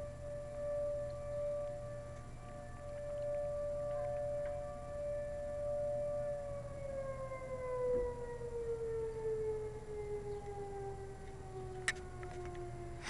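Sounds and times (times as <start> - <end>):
warning siren winding down: 0.0 - 13.0.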